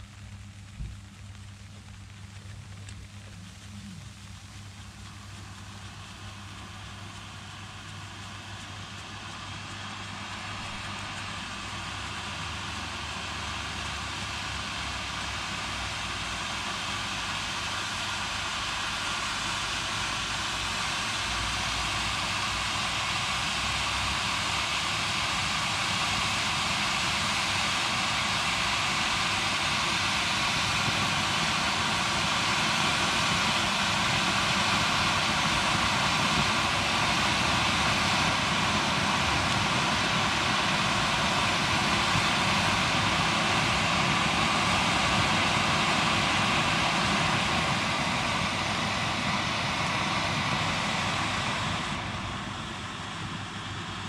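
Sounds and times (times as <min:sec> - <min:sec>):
steady rushing engine-like noise: 0:02.8 - 0:54.0.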